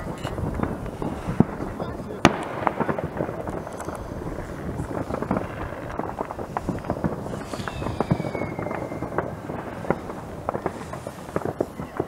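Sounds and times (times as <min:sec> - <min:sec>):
distant fireworks banging and popping: 0:00.0 - 0:12.0
whistling firework falling tone: 0:02.2 - 0:12.0.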